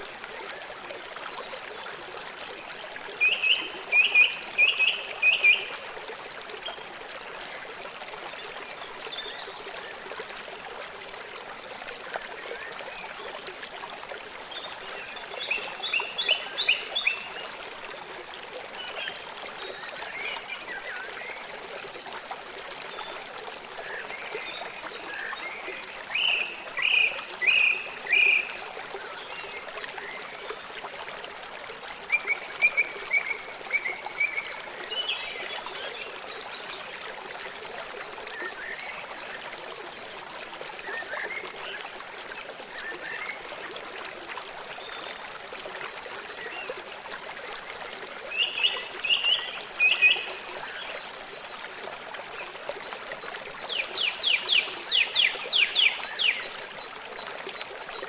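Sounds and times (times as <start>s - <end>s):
stream running: 0.0s - 58.0s.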